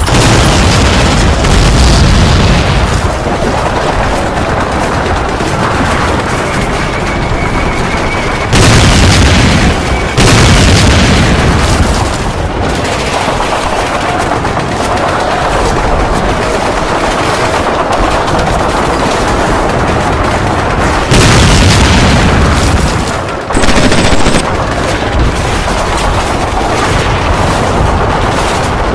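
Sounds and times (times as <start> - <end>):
loud explosions: 0.0 - 28.9
rapid gunfire: 0.0 - 28.9.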